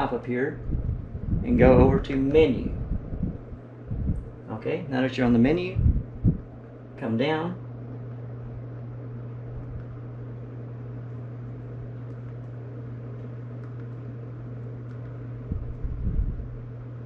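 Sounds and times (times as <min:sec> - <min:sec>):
low hum with fan-like hiss: 0:00.0 - 0:17.0.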